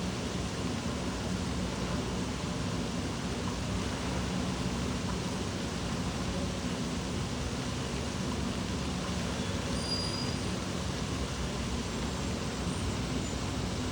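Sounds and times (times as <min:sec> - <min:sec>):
running and splashing water: 0:00.1 - 0:13.9.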